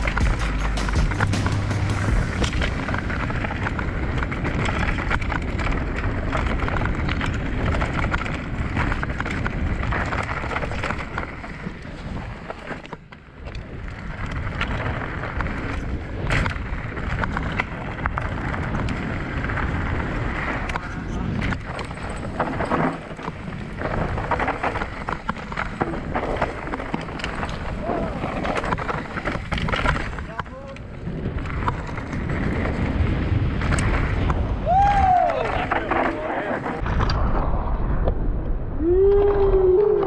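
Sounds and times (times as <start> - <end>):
tyres rolling over dirt and stones: 0.0 - 37.1
bike rattling and clattering: 0.0 - 37.4
wind noise on microphone: 0.0 - 40.0.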